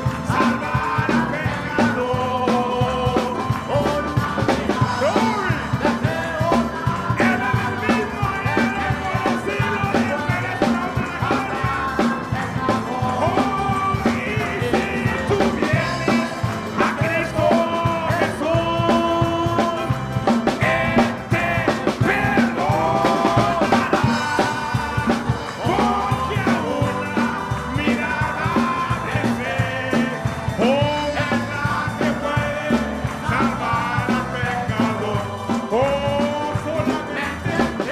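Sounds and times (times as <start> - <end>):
upbeat praise band music: 0.0 - 37.9.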